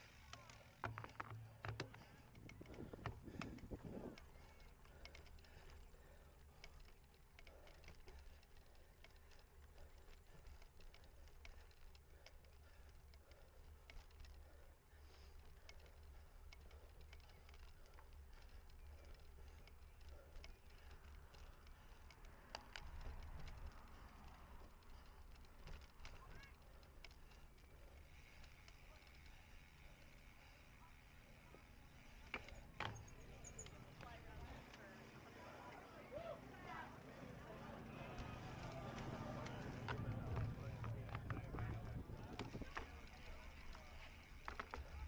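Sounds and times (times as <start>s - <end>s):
bicycle clicks and rattles: 0.0s - 45.0s.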